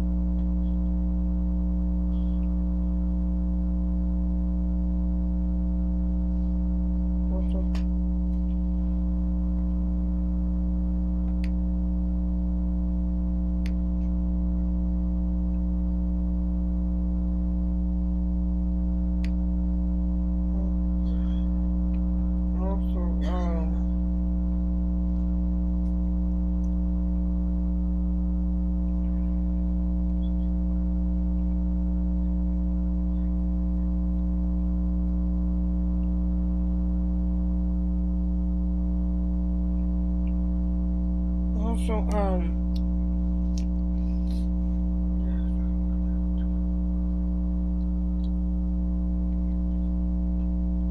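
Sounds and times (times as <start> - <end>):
electrical mains hum: 0.0 - 50.9.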